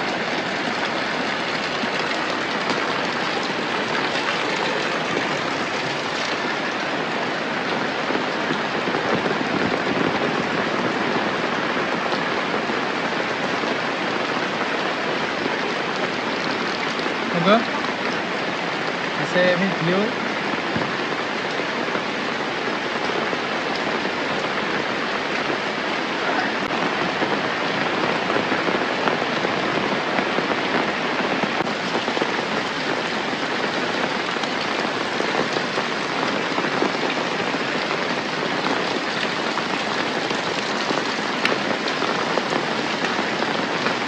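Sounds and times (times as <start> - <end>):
steady rain patter: 0.0 - 44.0.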